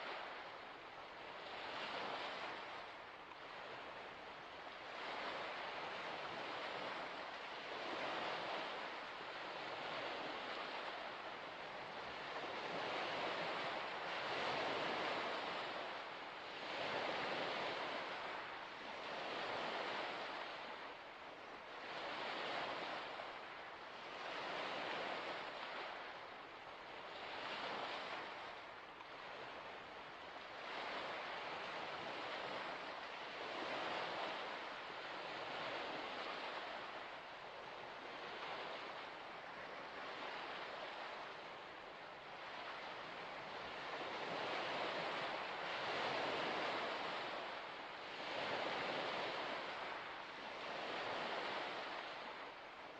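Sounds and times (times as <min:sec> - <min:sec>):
small waves washing onto shore: 0:00.0 - 0:52.9.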